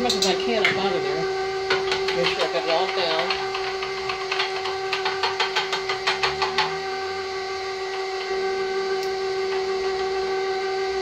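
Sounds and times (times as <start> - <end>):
electric mixer motor whine: 0.0 - 11.0.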